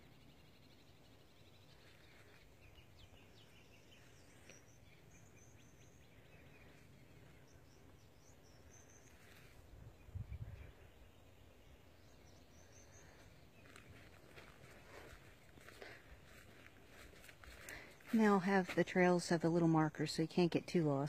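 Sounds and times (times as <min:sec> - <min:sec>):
faint distant bird chirps: 0:00.0 - 0:18.2.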